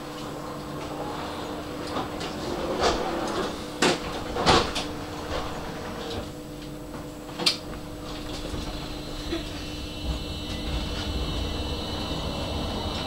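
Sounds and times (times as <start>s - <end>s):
tram electric hum: 0.0s - 13.0s.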